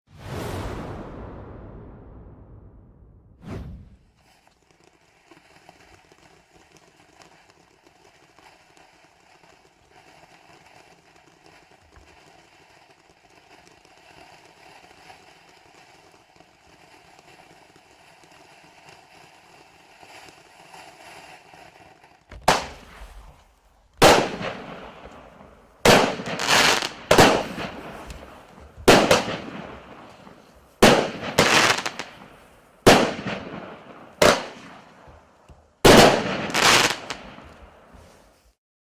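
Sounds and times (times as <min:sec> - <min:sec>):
firework bangs: 0:00.1 - 0:38.6
firework fountain hissing: 0:03.8 - 0:38.6.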